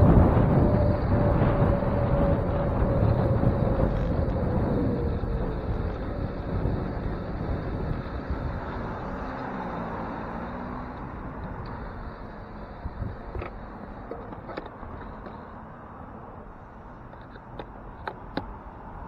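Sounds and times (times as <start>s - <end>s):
wind rushing over microphone: 0.0s - 16.6s
tyre and road rumble: 0.0s - 19.0s.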